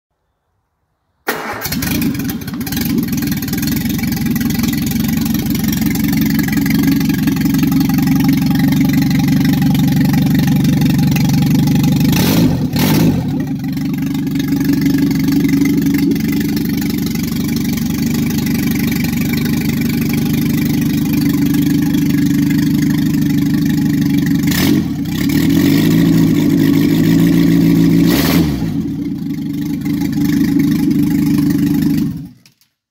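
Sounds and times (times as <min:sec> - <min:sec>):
car engine starting and running: 0:01.2 - 0:32.6.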